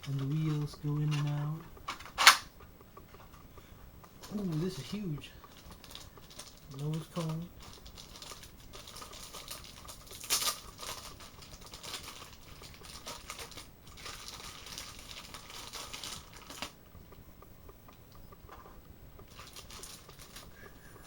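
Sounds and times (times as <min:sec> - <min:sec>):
plastic packaging crinkling: 0:00.0 - 0:17.2, 0:18.5 - 0:21.0.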